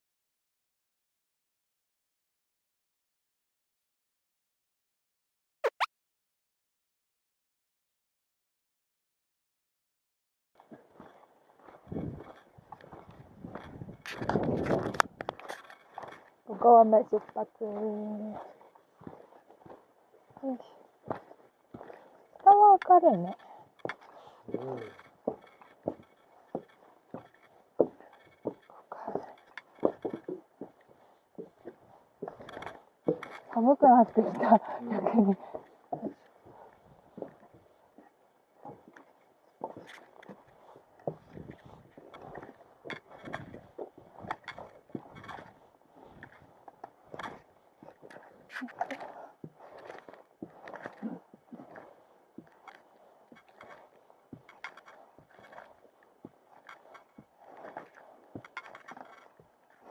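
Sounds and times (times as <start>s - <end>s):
footsteps on mountain trail: 10.6s - 59.9s.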